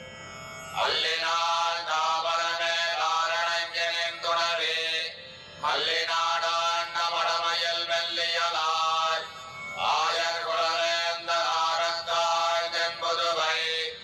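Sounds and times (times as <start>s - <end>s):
devotional music: 0.0s - 14.0s
person chanting: 0.8s - 14.0s.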